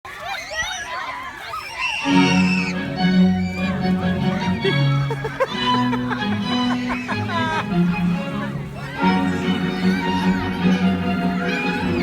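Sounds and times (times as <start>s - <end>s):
crowd shouting and chattering: 0.0s - 12.0s.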